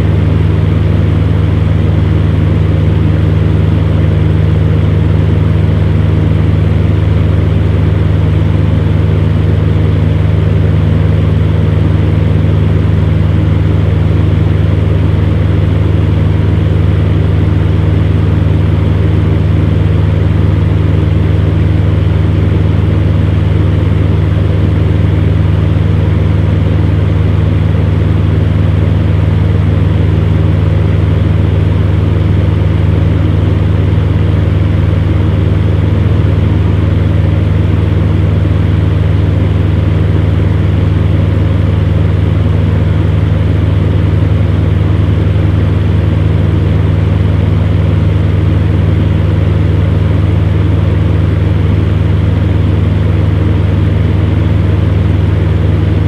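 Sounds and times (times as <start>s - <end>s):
fan heater motor hum: 0.0s - 56.0s.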